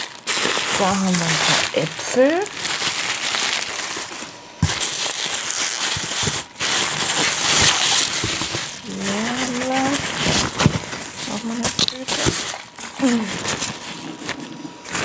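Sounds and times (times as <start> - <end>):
plastic film and paper crinkling: 0.0 - 15.0.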